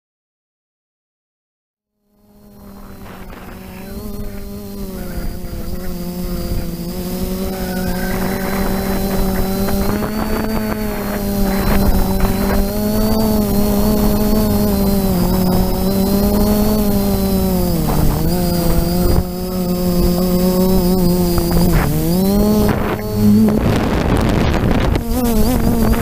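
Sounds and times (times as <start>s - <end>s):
quadcopter motors buzzing: 2.1s - 26.0s.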